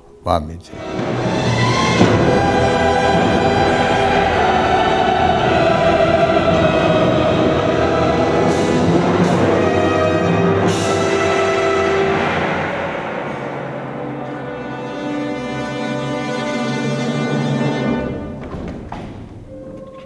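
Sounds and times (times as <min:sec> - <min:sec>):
orchestra holding a loud chord: 0:00.7 - 0:18.4.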